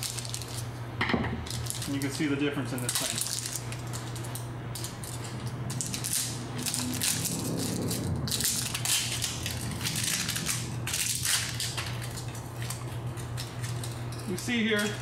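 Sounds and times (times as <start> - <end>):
packaging crinkling and rustling: 0.0 - 0.7, 1.4 - 15.0
steady low hum: 0.0 - 15.0.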